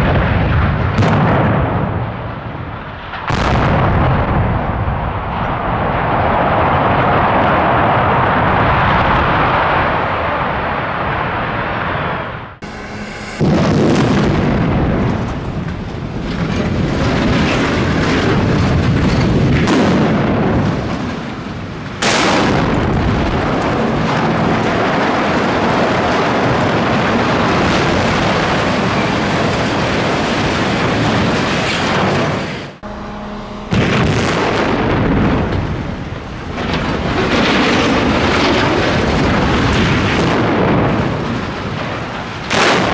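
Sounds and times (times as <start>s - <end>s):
explosive blast rumbling: 0.0s - 42.9s.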